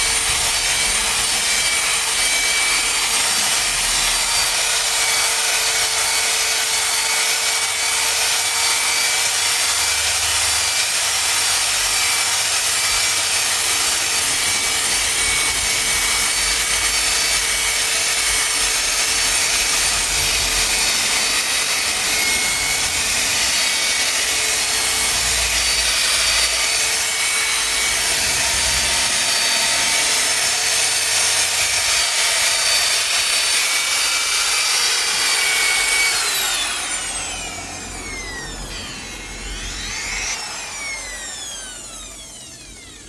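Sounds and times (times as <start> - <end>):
machine polisher motor whine: 0.0 - 43.0.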